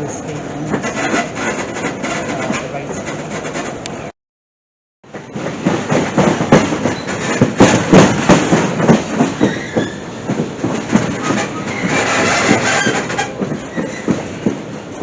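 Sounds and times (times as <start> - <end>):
train coach creaking: 0.0 - 4.1, 5.1 - 15.0
train wheels clattering on rails: 0.0 - 4.1, 5.0 - 15.0.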